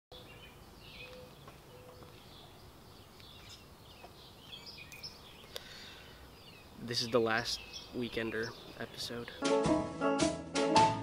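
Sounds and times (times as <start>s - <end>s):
birds chirping faintly: 0.1s - 9.4s.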